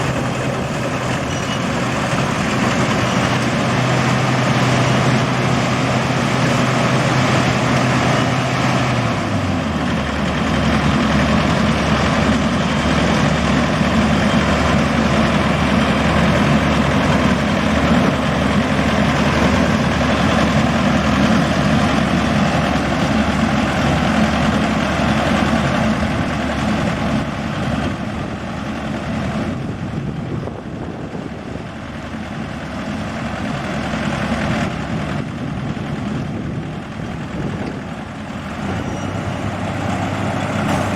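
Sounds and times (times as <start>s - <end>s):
combine harvester engine droning: 0.0s - 40.9s.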